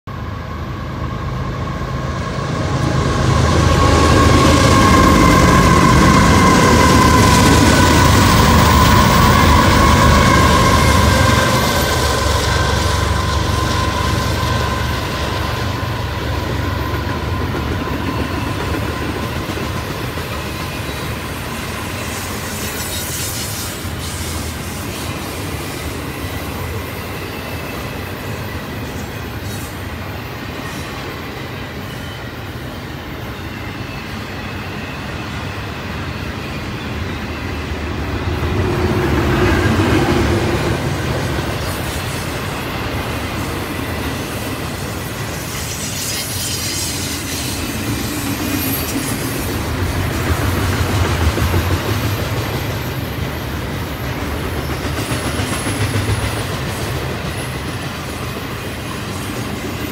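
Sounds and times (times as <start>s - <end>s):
train wheels rumbling on rails: 0.1s - 59.9s
faint high wheel squeal: 0.3s - 37.9s, 39.4s - 50.4s.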